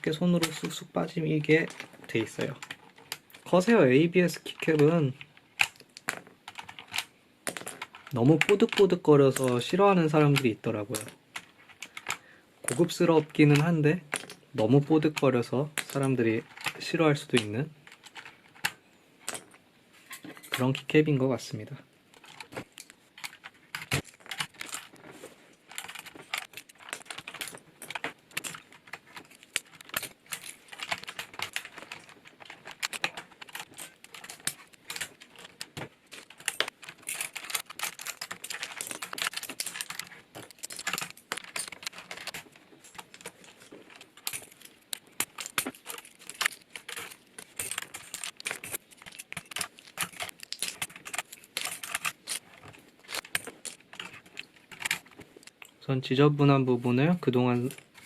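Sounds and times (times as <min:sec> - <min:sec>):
keycaps clicking off keyboard: 0:00.0 - 0:19.5, 0:22.1 - 0:25.0, 0:25.7 - 0:55.8.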